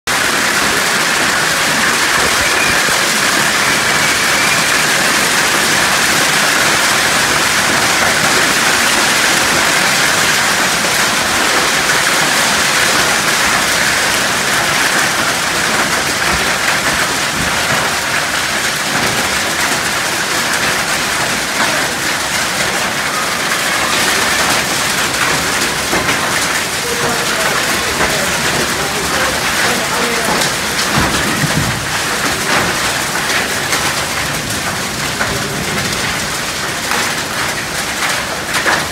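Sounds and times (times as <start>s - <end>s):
heavy rain and hail on concrete: 0.1s - 38.9s.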